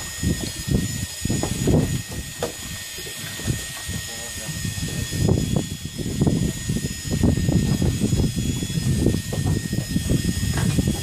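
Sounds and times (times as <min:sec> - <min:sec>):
thin machine whine: 0:00.0 - 0:11.0
wind buffeting microphone: 0:00.0 - 0:11.0.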